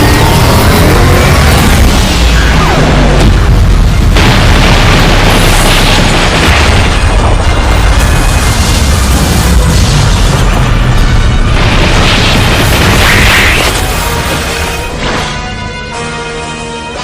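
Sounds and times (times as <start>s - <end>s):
cartoon explosion rumbling blast: 0.0s - 13.8s
background music: 0.0s - 17.0s.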